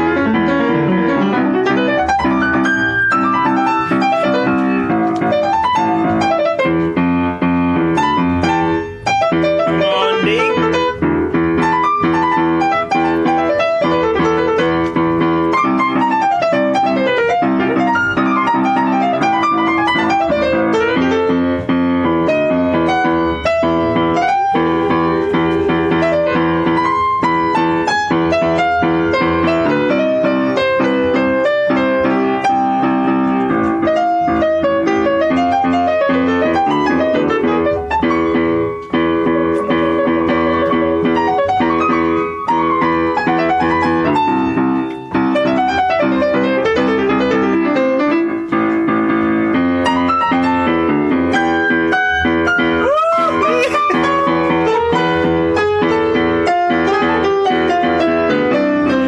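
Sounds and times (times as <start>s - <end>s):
piano chords: 0.0s - 59.0s
piano melody line: 0.0s - 59.0s.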